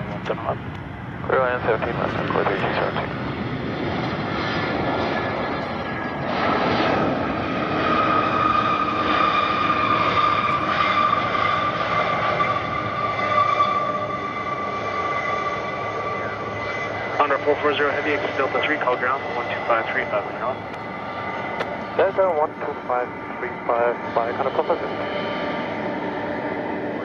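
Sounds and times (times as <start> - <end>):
jet engine whine: 0.0 - 27.0
jet engines rushing: 0.0 - 27.0.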